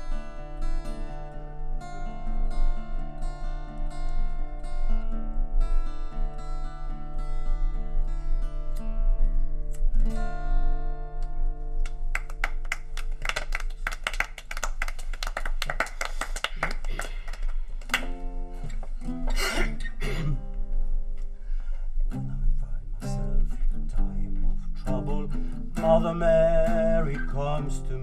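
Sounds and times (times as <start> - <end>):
acoustic guitar strumming: 0.0 - 13.1, 17.0 - 28.0.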